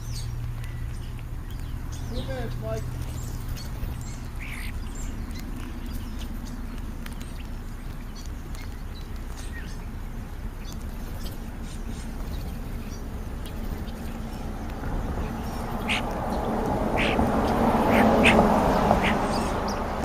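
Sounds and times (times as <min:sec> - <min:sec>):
background rushing noise: 0:00.0 - 0:20.0
birds chirping: 0:00.0 - 0:20.0
harsh bird calls: 0:00.0 - 0:20.0.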